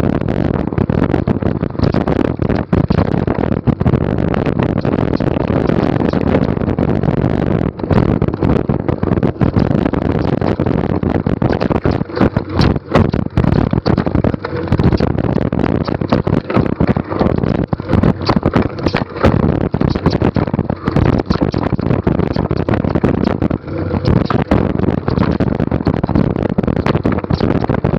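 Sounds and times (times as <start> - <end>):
bike knocking and rattling: 0.0 - 27.9.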